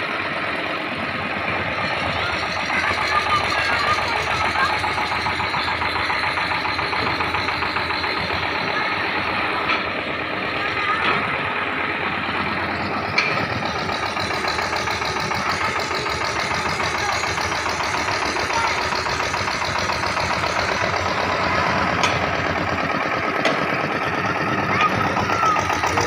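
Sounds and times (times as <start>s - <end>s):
drilling rig engine running: 0.0s - 26.0s.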